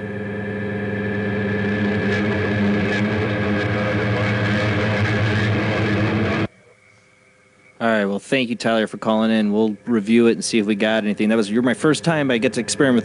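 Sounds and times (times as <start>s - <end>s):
buzzing drone with low hum: 0.0s - 13.0s.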